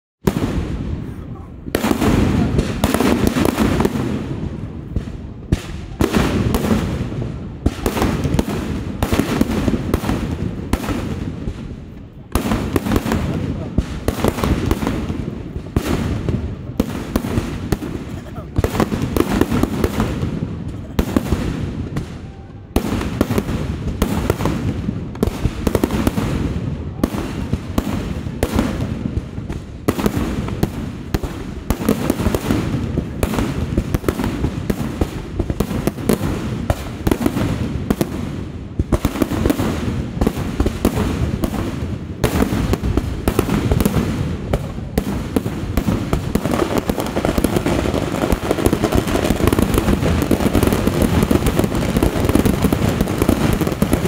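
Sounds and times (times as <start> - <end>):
firework blasts and crackling: 0.2 - 54.0.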